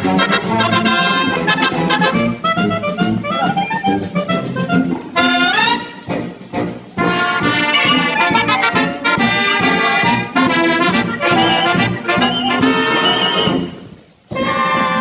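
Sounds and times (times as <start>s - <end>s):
trumpet: 0.0s - 6.1s, 7.0s - 15.0s
brass band music: 0.0s - 15.0s
trombone: 0.0s - 15.0s.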